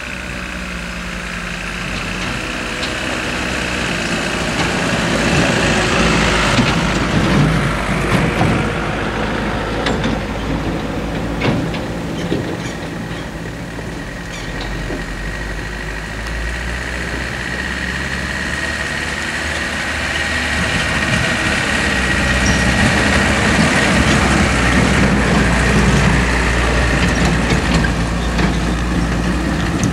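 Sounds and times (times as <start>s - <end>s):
diesel truck engine driving: 0.0s - 29.9s.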